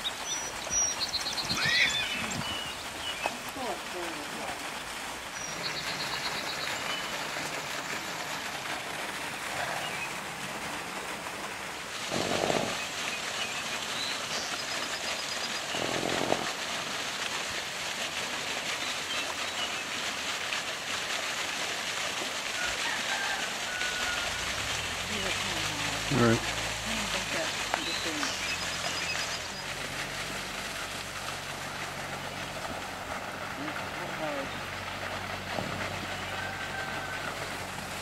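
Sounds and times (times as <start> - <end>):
stream running over stones: 0.0 - 38.0.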